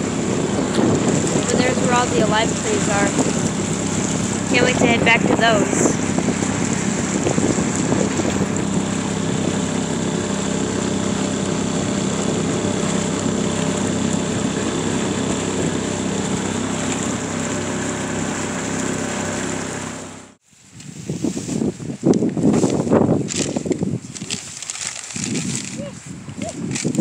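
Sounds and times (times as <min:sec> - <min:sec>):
outboard motor running: 0:00.0 - 0:20.4, 0:22.3 - 0:27.0.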